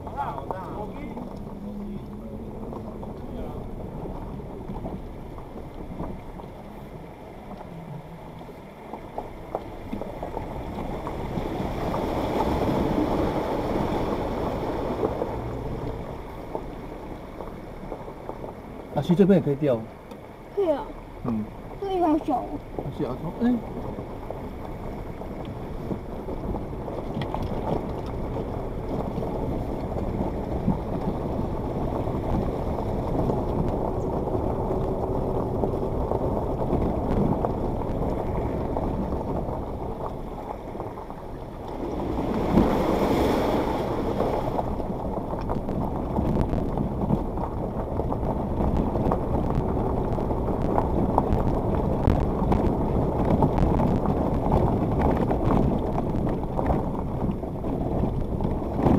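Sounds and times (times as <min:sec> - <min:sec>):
tyres crunching over rocks: 0:00.0 - 0:20.3, 0:22.7 - 0:58.9
car engine running: 0:00.0 - 0:42.9, 0:43.6 - 0:58.9
water splashing: 0:00.0 - 0:58.9.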